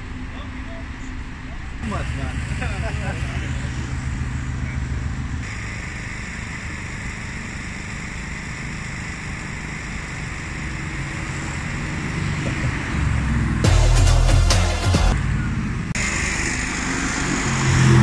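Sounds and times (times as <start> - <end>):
car engine approaching: 0.0 - 5.5, 9.0 - 18.0
wind: 0.0 - 13.7, 15.1 - 18.0
distant traffic: 0.0 - 18.0.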